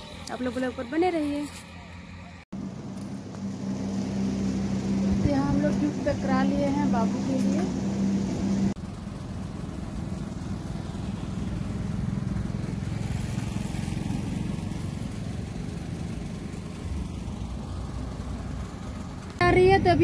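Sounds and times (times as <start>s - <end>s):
vehicle driving on road: 0.0s - 20.0s.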